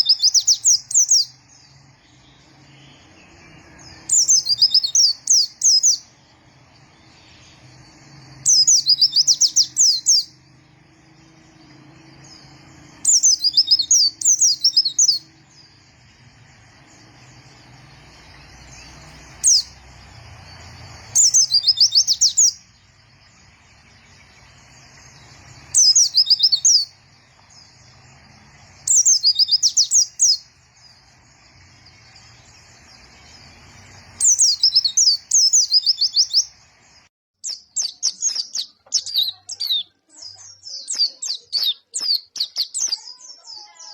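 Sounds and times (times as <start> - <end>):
bird twittering song: 0.0 - 43.9.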